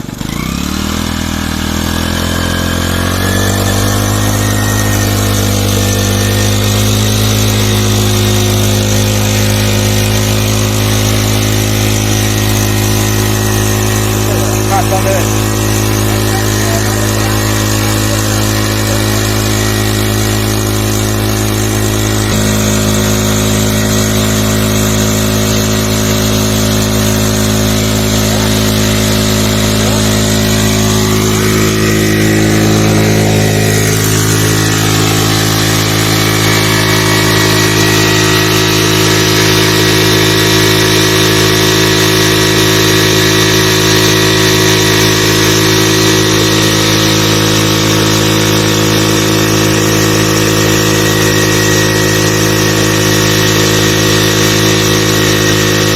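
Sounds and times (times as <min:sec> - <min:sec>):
motorcycle engine running steadily: 0:00.0 - 0:55.9.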